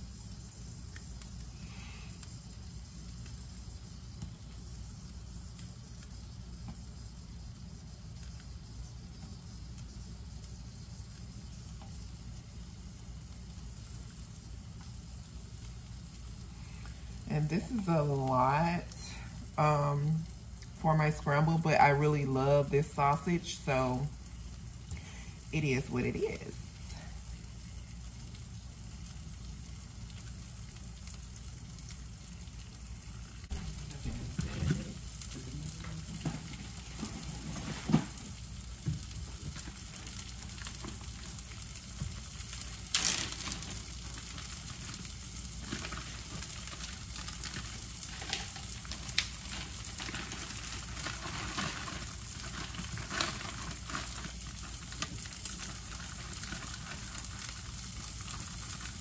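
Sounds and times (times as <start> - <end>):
sausage sizzling in a frying pan: 0.0 - 59.0.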